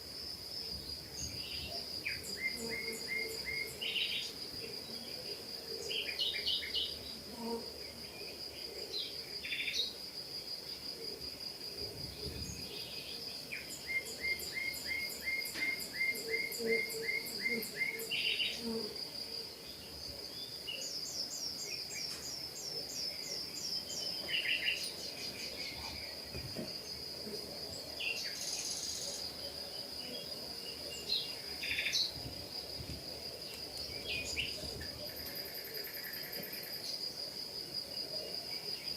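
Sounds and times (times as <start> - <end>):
songbirds chirping: 0.1 - 38.9.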